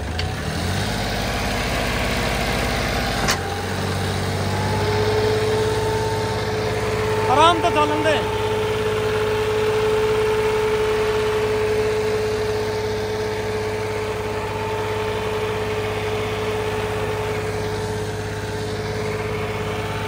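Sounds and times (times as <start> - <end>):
tractor diesel engine running: 0.0 - 20.0
steady whine: 2.1 - 20.0.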